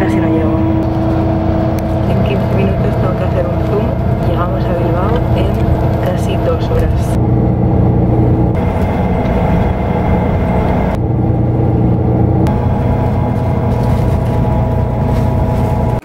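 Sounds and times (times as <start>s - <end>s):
bus road rumble: 0.0s - 16.0s
engine hum: 0.0s - 16.0s.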